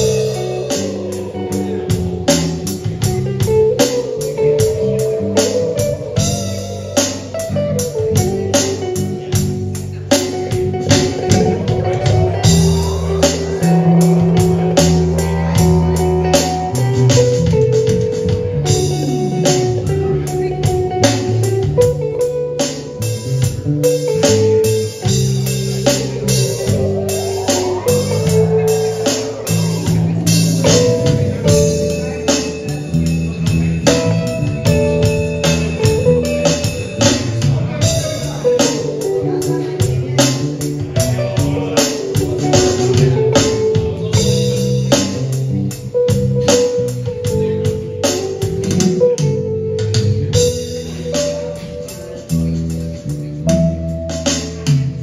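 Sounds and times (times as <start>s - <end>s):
electronic drum kit beat: 0.0s - 49.4s
electric bass: 0.0s - 55.0s
electric guitar playing lead: 0.0s - 55.0s.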